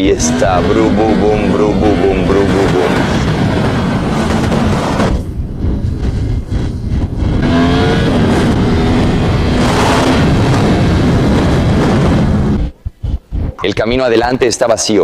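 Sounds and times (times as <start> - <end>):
motorcycle engine accelerating: 0.0 - 13.7
exhaust crackles and pops: 0.0 - 14.5.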